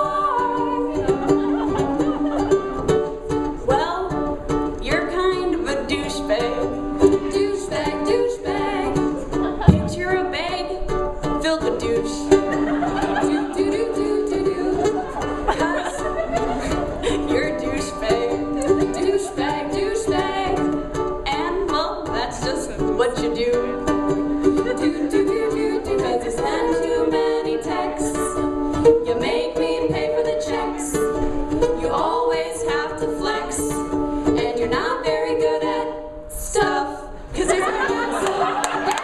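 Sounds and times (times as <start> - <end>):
person singing: 0.0 - 2.8, 3.6 - 39.0
plucked string instrument: 0.0 - 39.0.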